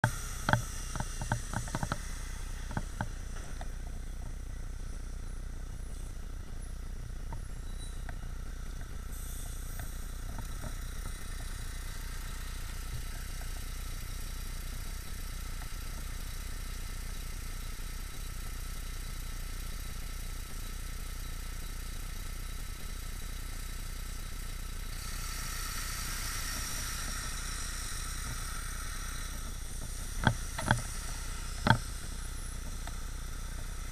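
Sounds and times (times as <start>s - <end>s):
bright hiss: 0.0s - 33.9s
bus engine rumble: 0.0s - 33.9s
sharp clicks and rattles: 0.0s - 33.9s
street traffic: 0.0s - 33.9s.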